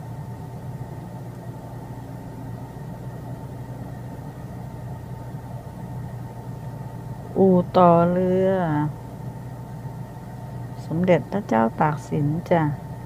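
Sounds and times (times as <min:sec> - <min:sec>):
engine running with low hum: 0:00.0 - 0:13.0
faint steady whine: 0:00.0 - 0:13.0.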